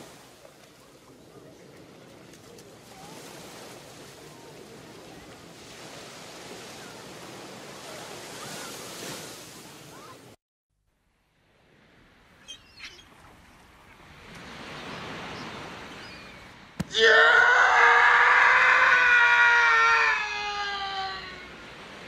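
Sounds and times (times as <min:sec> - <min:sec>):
sea waves washing ashore: 0:00.0 - 0:10.4, 0:13.0 - 0:22.0.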